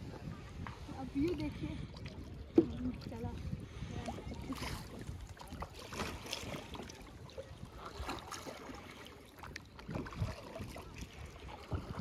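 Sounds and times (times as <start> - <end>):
kayak paddle splashing in water: 1.9 - 12.0.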